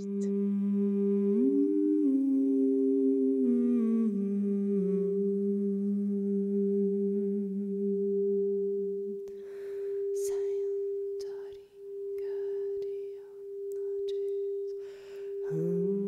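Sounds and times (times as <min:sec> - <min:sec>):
person humming a slow melody: 0:00.0 - 0:16.0.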